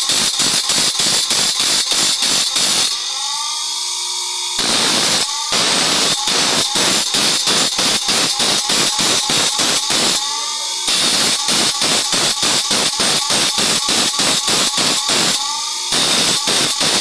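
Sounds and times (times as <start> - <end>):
grinder wheel grinding saw teeth: 0.0 - 17.0
grinder wheel spinning free: 0.0 - 17.0.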